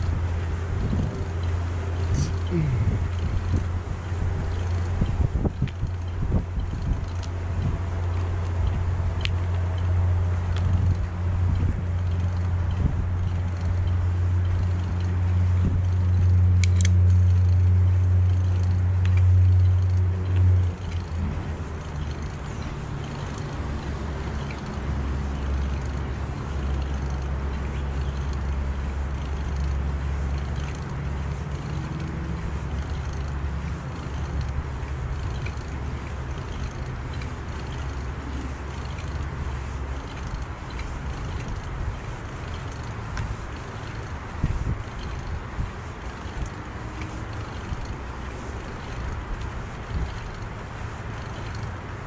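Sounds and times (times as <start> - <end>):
wind and tyre rumble: 0.0 - 52.0.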